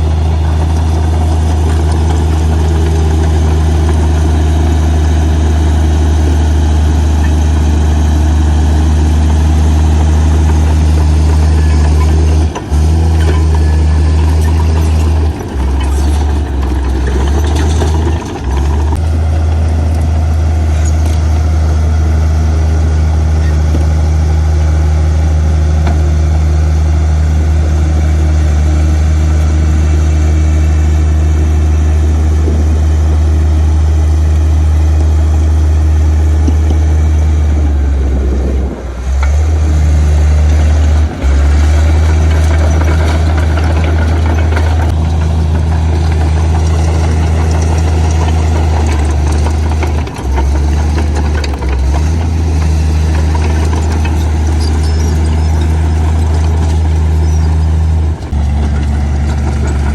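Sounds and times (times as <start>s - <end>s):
diesel engine low drone: 0.0s - 59.9s.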